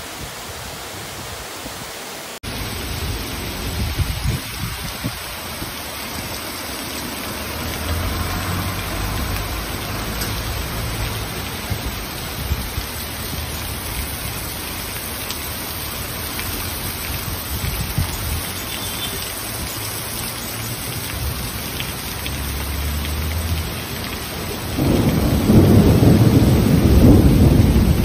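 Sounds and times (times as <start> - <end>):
torrential rain pouring: 0.0 - 28.0.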